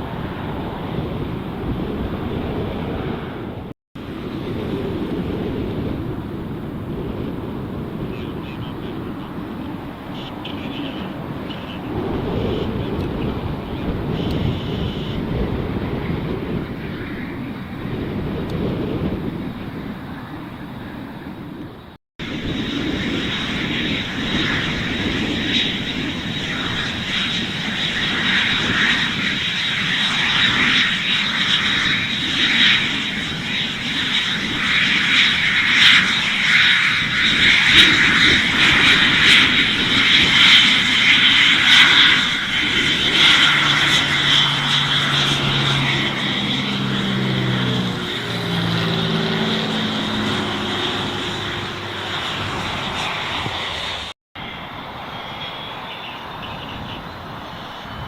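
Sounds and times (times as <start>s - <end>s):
aircraft engine noise: 0.0s - 58.0s.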